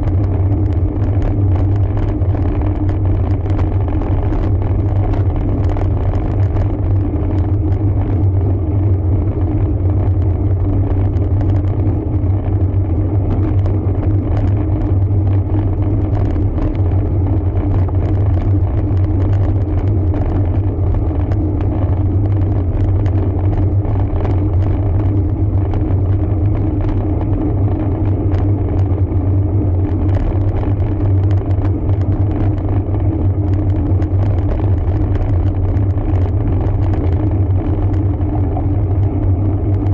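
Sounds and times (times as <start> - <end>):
bicycle clicks and rattles: 0.0 - 39.9
bicycle tyre noise: 0.0 - 39.9
wind rumble: 0.0 - 39.9.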